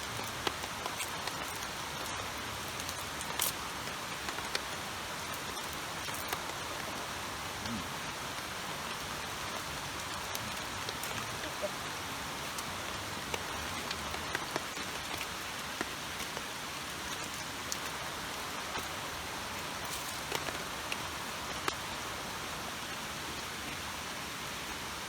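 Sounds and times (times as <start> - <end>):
raindrops ticking close by: 0.0 - 24.3
heavy rain falling: 0.0 - 25.0.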